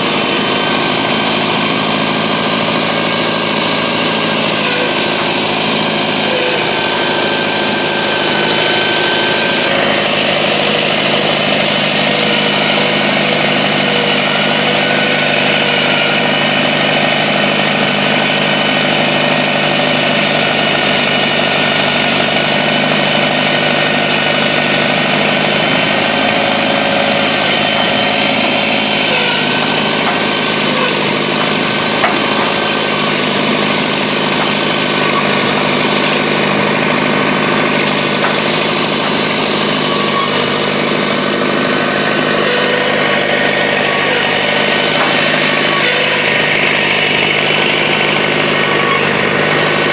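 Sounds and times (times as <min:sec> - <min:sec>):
winch engine running: 0:00.0 - 0:49.9.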